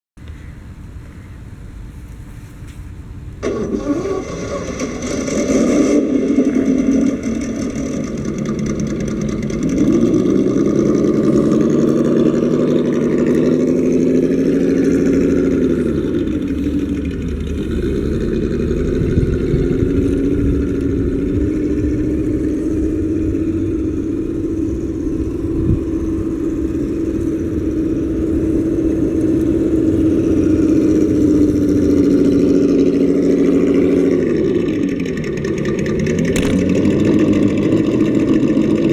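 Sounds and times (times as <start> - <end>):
simulated engine revving: 3.4 - 38.9.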